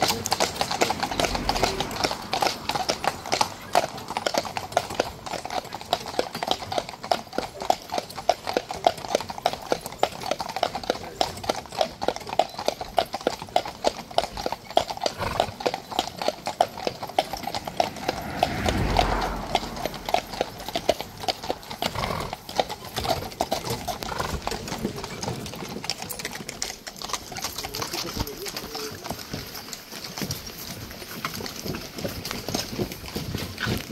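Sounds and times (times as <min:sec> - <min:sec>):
horse hooves on asphalt: 0:00.0 - 0:33.9.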